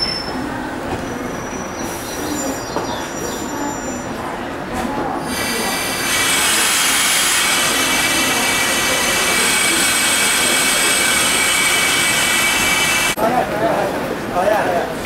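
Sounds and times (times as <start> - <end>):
train wheels squealing: 0.0 - 4.3, 5.2 - 13.2.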